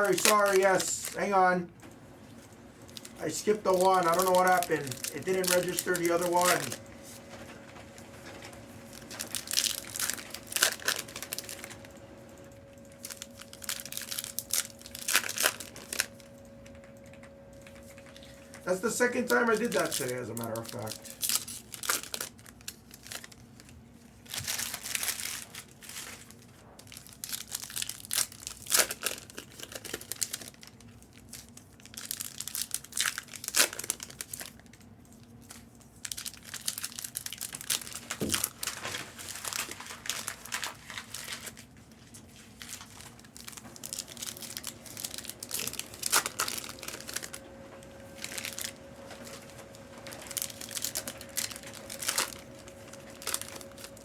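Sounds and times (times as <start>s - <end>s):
card pack wrappers crinkling: 0.0s - 1.5s, 2.3s - 54.0s.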